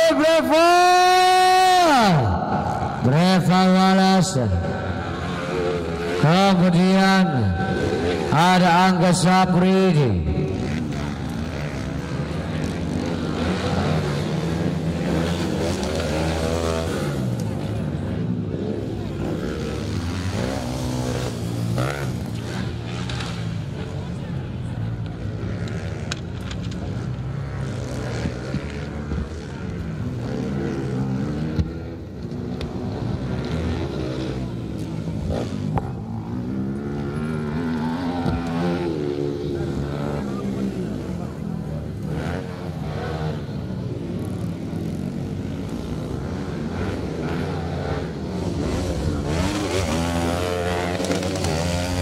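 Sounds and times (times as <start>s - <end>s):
motocross bike engines droning: 0.0s - 52.0s.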